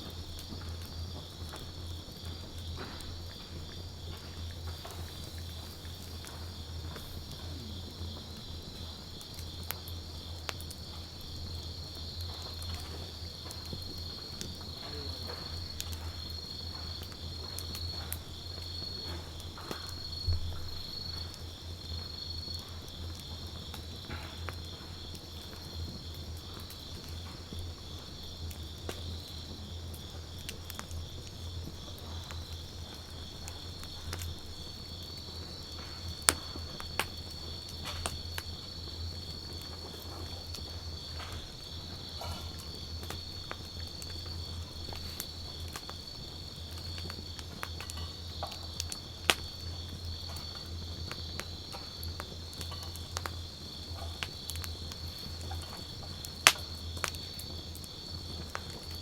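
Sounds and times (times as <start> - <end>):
campfire crackling and popping: 0.0 - 59.0
insects trilling: 0.0 - 59.0.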